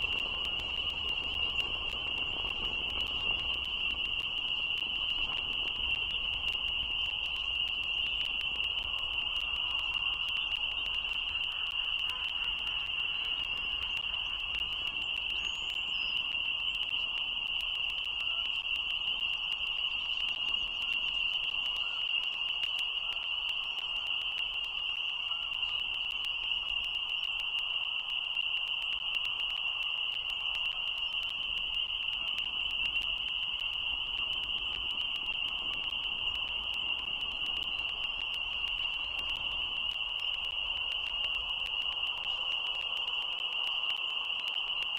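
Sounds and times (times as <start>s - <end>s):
chorus of spring peepers: 0.0s - 44.9s.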